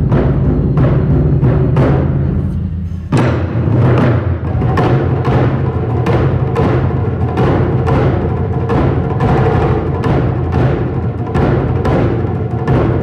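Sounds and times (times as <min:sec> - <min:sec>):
taiko drums ensemble drumming: 0:00.0 - 0:13.0.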